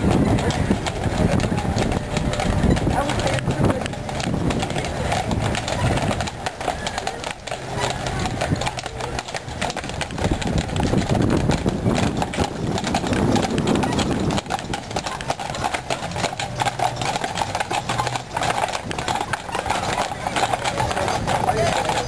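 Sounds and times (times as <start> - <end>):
horse hooves clip-clopping on asphalt: 0.0 - 22.0.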